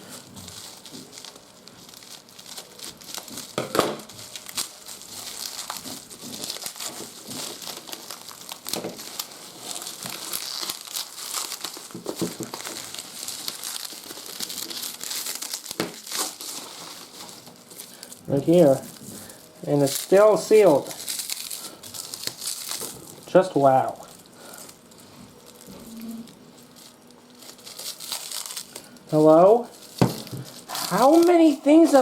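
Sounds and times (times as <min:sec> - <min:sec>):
bubble wrap crinkling: 0:00.0 - 0:32.0.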